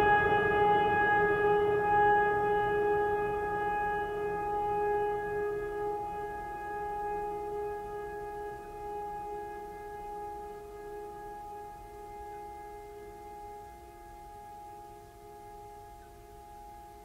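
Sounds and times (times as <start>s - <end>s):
sustained droning tone: 0.0s - 17.0s.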